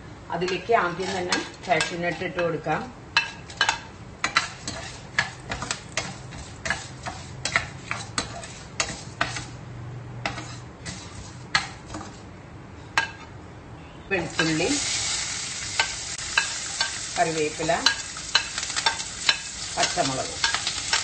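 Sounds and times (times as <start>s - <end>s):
spatula scraping frying pan: 0.4s - 9.6s, 10.2s - 12.3s, 14.3s - 21.0s.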